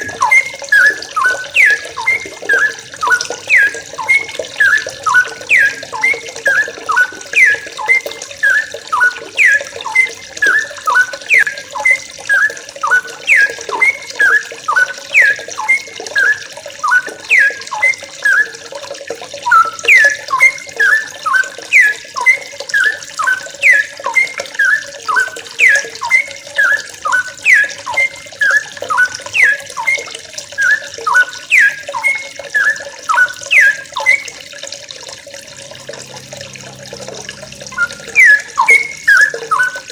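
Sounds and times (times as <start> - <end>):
birds chirping: 0.0 - 18.6, 19.4 - 34.2, 35.4 - 39.9.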